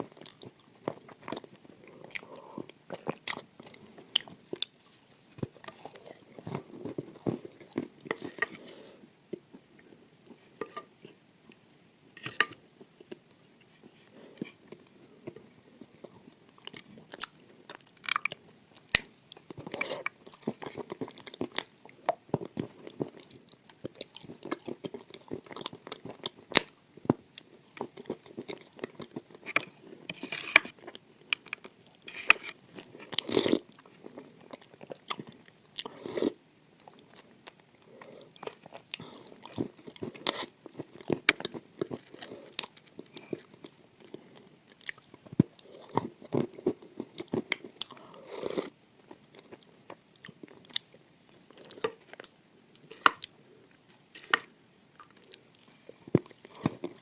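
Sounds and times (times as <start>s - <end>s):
chewing crunchy food: 0.0s - 11.2s, 14.2s - 57.0s.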